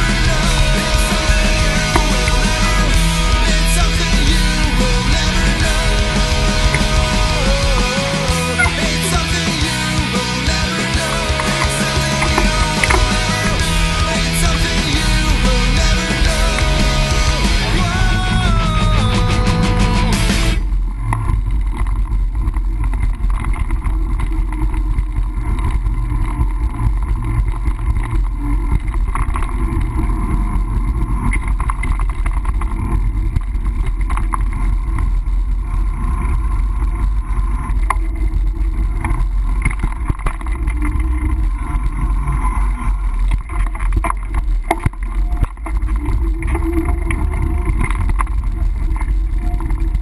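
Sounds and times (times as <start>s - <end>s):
bicycle rolling noise: 0.0s - 50.0s
wind rumble: 0.0s - 50.0s.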